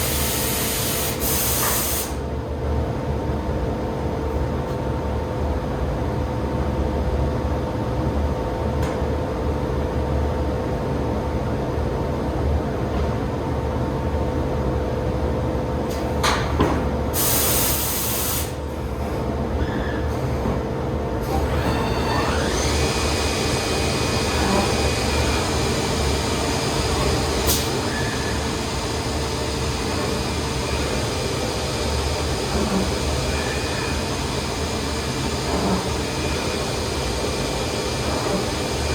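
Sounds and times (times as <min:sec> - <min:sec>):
machining centre humming and whining: 0:00.0 - 0:38.9.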